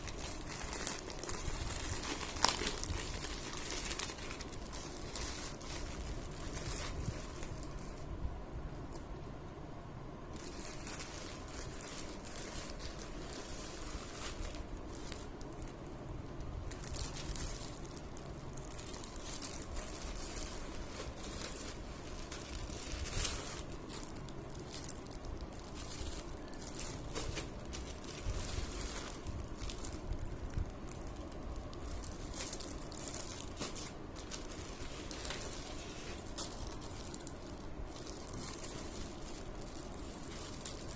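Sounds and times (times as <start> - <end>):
packaging and fabric rustling: 0.0 - 8.1, 10.3 - 40.9
small crackles: 0.0 - 8.1, 10.3 - 40.9
low background noise: 0.0 - 40.9.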